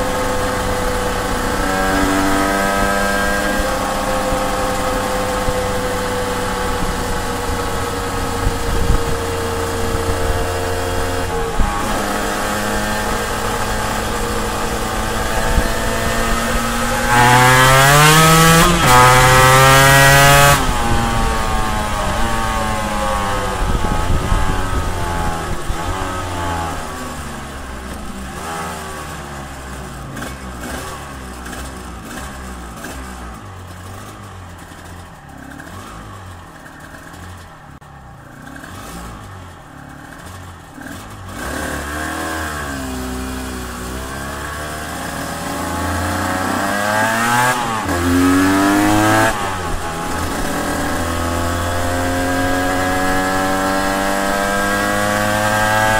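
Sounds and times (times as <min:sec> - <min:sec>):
two-stroke motorcycle engine: 0:00.0 - 0:55.9.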